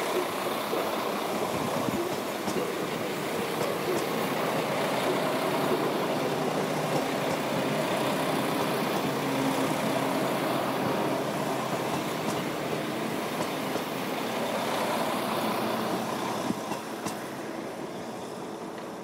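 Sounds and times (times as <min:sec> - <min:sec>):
train running: 0:00.0 - 0:19.0.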